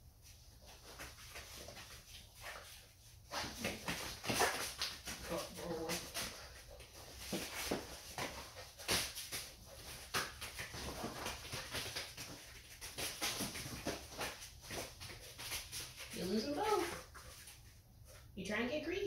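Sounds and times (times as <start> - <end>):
puppy paws tapping and scraping: 0.1 - 18.4.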